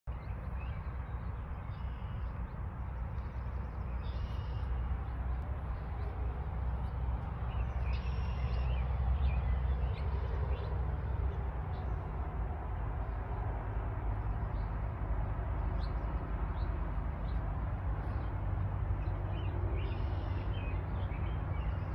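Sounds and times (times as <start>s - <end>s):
small birds chirping: 0.1s - 12.1s, 15.6s - 21.9s
low outdoor rumble: 0.1s - 21.9s.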